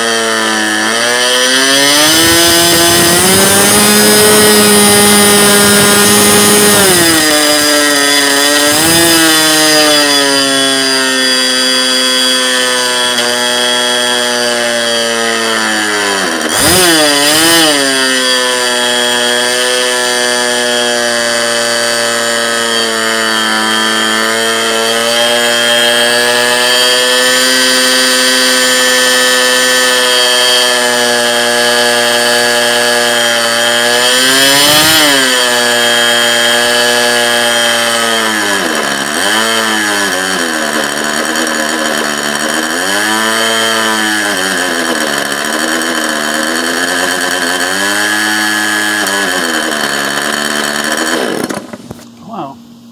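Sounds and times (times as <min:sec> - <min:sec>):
two-stroke engine running at high speed: 0:00.0 - 0:52.9.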